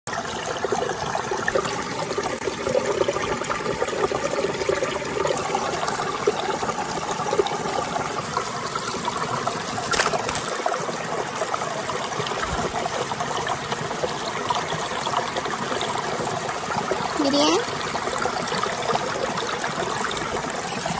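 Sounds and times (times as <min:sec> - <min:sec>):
shallow water trickling: 0:00.2 - 0:20.9.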